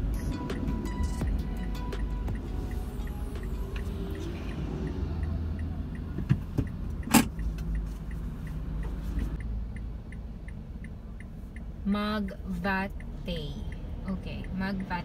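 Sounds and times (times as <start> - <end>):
car engine and road rumble: 0.0 - 15.0
turn signal ticking: 0.0 - 15.0.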